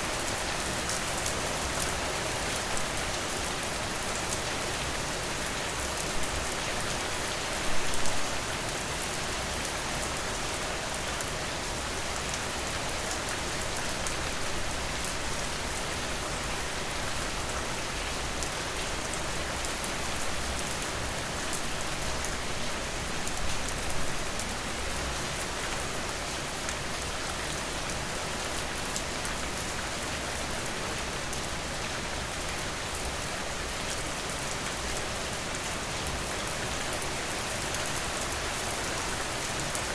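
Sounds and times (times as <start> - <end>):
steady rain with drop hits: 0.0 - 39.9.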